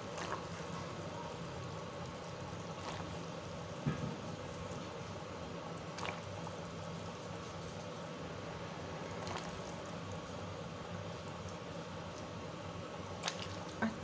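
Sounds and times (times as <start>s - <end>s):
stock boiling in a pot: 0.0s - 14.0s.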